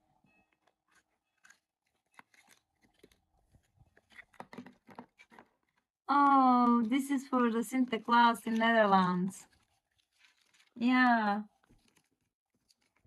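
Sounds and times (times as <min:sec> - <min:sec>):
wrapper crinkling and tearing: 0:00.8 - 0:05.8, 0:06.6 - 0:13.0.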